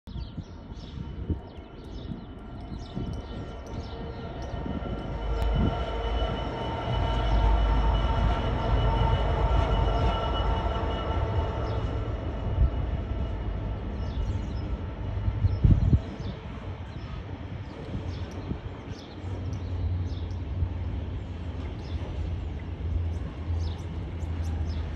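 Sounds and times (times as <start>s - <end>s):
diesel locomotive engine droning: 0.3s - 24.9s.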